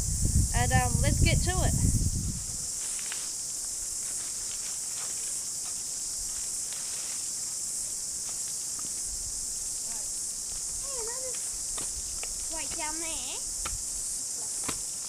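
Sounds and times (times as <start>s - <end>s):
insects buzzing chorus: 0.0s - 15.0s.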